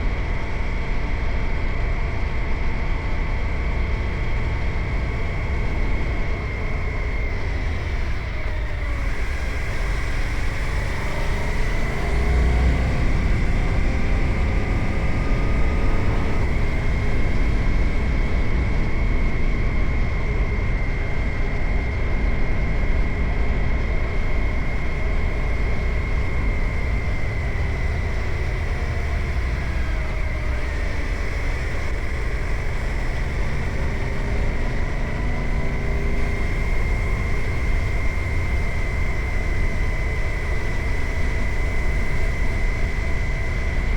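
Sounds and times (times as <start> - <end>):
steady high whine: 0.0 - 43.9
motorcycle engine accelerating: 3.8 - 43.9.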